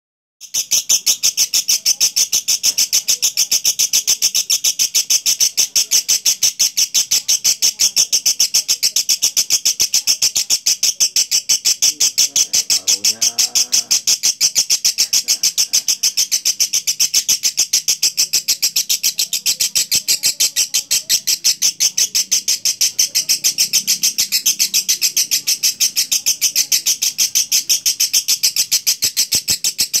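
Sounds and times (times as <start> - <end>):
lovebird chattering trill: 0.4 - 30.0.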